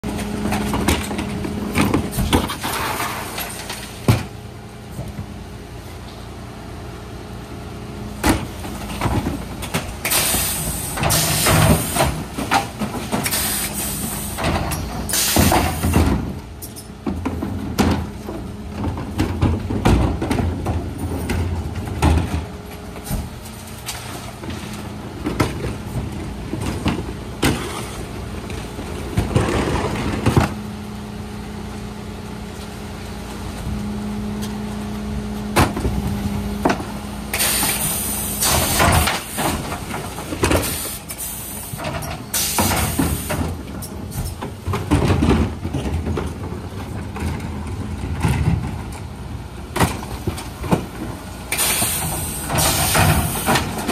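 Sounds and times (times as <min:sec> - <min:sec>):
rubbish clattering into hopper: 0:00.0 - 0:05.4, 0:08.2 - 0:53.9
truck engine and hydraulics hum: 0:00.0 - 0:53.9.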